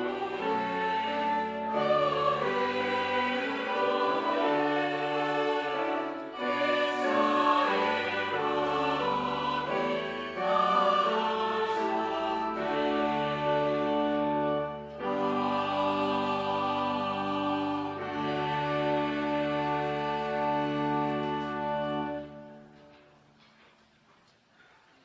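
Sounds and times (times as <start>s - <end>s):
choir singing held chords: 0.0s - 22.8s
instrumental accompaniment: 0.0s - 23.5s.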